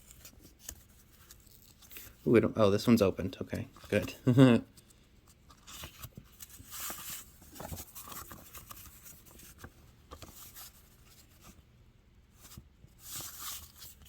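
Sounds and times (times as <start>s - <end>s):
paper rustling: 0.0s - 2.2s, 3.7s - 11.6s, 12.4s - 14.0s.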